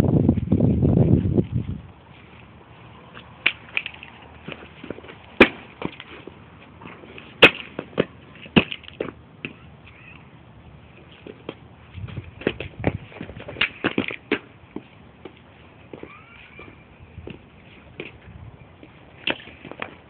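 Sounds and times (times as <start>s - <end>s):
low noise: 0.0s - 20.0s.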